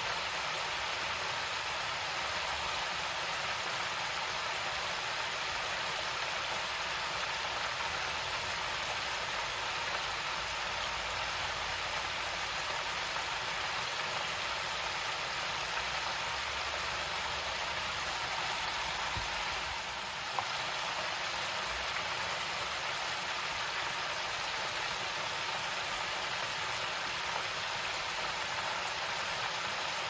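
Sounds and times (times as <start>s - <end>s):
oil sizzling and bubbling: 0.0s - 30.0s.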